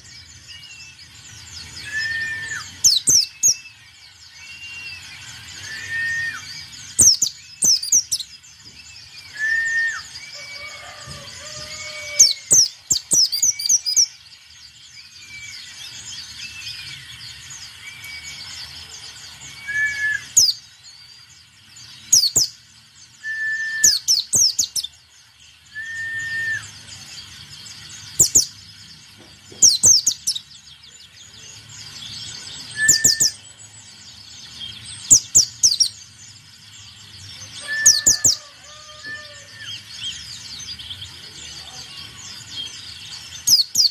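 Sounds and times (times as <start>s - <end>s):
bird twittering: 0.0s - 14.2s, 21.8s - 28.6s, 29.5s - 43.9s.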